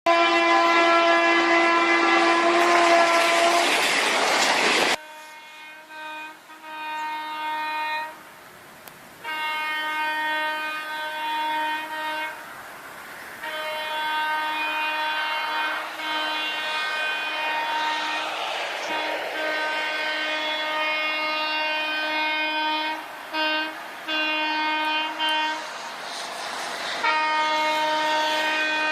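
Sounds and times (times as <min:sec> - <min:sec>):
train horn blasts: 0:00.0 - 0:03.8, 0:04.9 - 0:08.3, 0:09.2 - 0:12.6, 0:13.4 - 0:26.2, 0:27.0 - 0:28.9
moving train rumble: 0:00.1 - 0:28.9.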